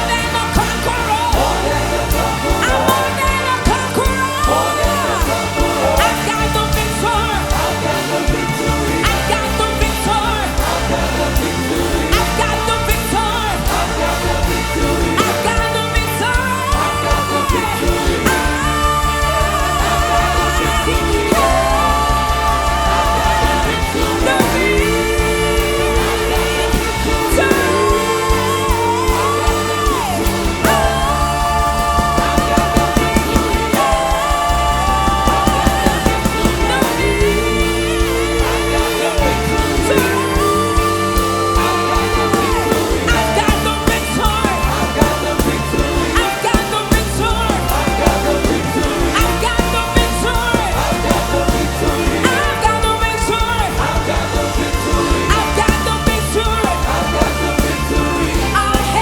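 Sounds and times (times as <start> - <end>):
bass and beat: 0.0 - 59.0
person singing: 0.0 - 59.0.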